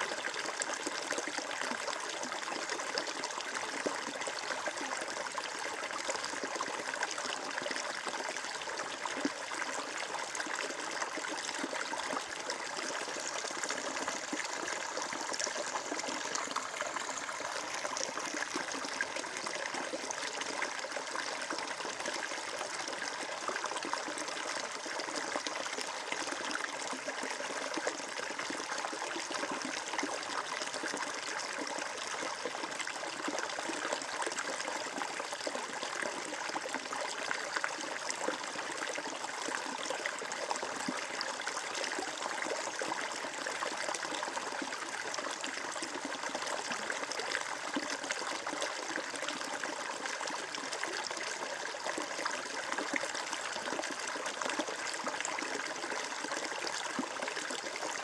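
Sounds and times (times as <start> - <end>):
water trickling over stones: 0.0 - 58.0.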